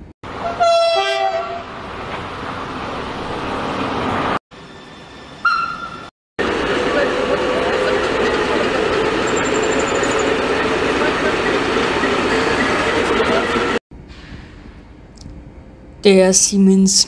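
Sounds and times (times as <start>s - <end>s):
train running with hum: 0.0s - 17.0s.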